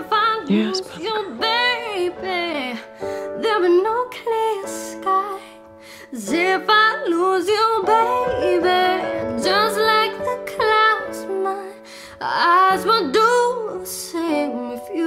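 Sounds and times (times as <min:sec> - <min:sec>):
instrumental backing music: 0:00.0 - 0:15.0
woman singing pop ballad: 0:00.0 - 0:15.0.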